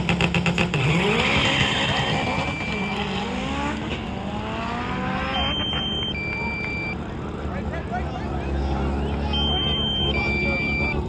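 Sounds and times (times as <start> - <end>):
drag racing car engine revving: 0.0 - 11.0.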